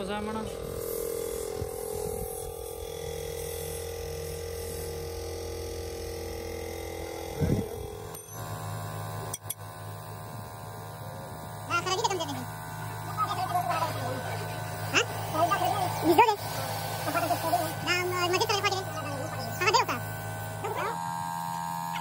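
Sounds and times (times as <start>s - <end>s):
low hum of held tones: 0.0s - 22.0s.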